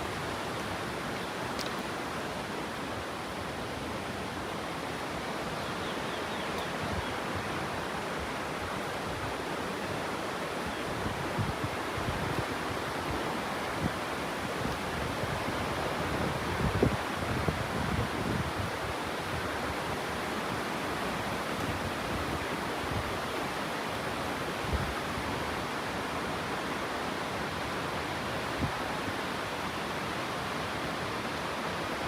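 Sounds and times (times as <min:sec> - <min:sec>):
water rushing: 0:00.0 - 0:32.0.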